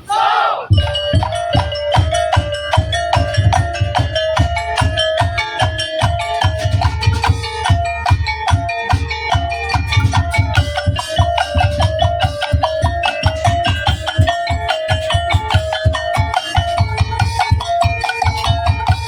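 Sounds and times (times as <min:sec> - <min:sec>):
wooden and bamboo percussion: 0:00.0 - 0:19.0
low drum beats: 0:00.7 - 0:19.0.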